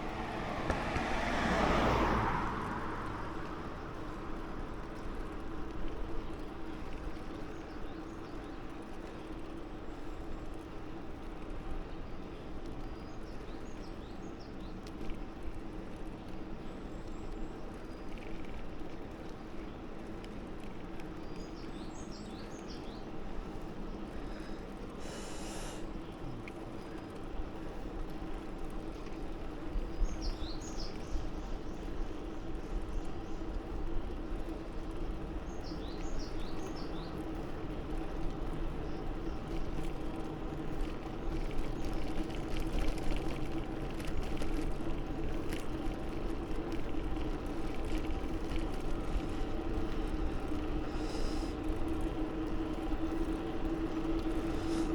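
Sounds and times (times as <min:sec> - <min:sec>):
bicycle rolling noise: 0:00.0 - 0:54.9
wind: 0:00.0 - 0:54.9.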